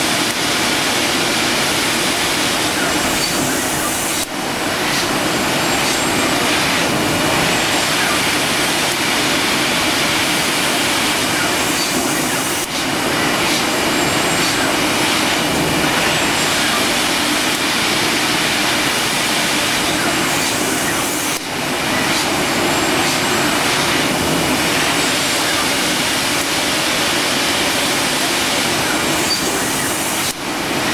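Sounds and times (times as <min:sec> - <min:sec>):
industrial machinery rushing: 0:00.0 - 0:30.9.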